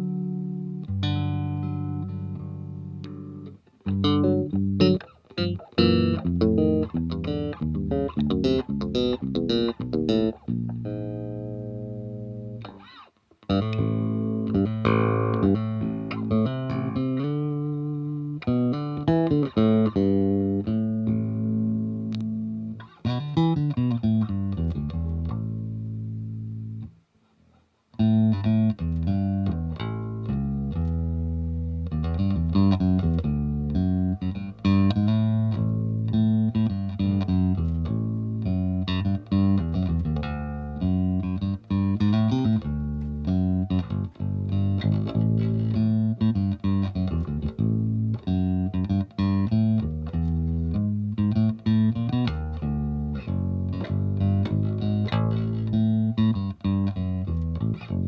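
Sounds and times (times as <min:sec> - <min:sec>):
electric bass guitar plucked: 0:00.0 - 0:27.0, 0:28.0 - 0:58.0.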